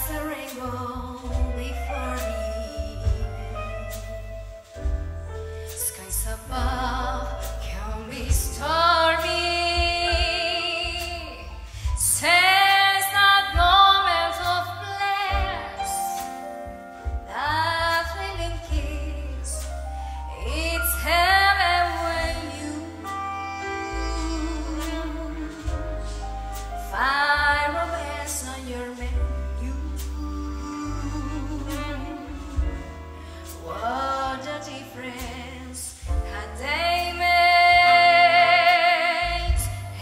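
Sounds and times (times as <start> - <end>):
woman singing with vibrato: 0.0 - 4.4, 5.8 - 16.2, 20.3 - 26.2, 26.8 - 33.0, 33.6 - 40.0
big band playing: 0.0 - 40.0.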